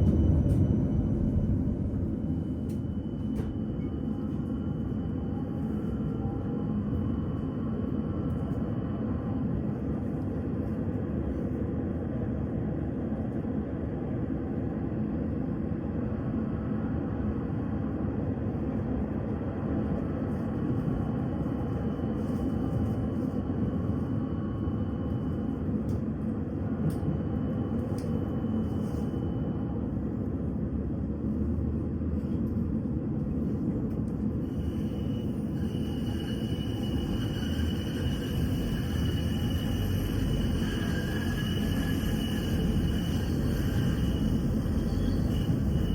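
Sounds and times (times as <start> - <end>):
tram rumble: 0.0 - 45.9.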